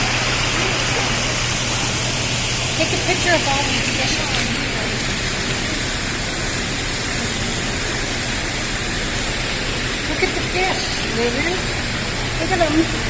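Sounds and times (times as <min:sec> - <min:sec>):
indoor waterfall rushing: 0:00.0 - 0:13.0.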